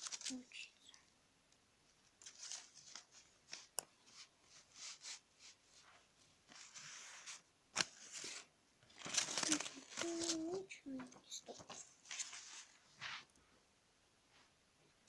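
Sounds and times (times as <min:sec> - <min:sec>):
paper rustling and creasing: 0:00.0 - 0:00.9, 0:02.0 - 0:13.3.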